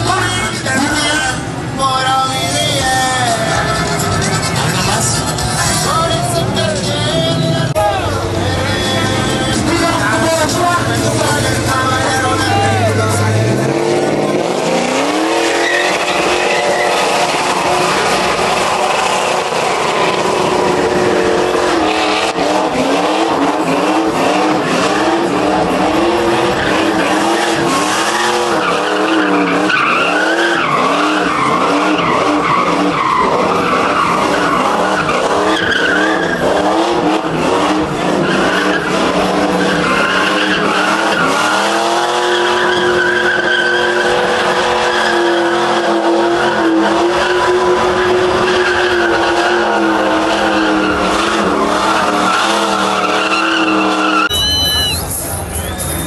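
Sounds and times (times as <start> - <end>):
truck engine revving: 0.0 - 56.0
tyres screeching: 0.0 - 56.0.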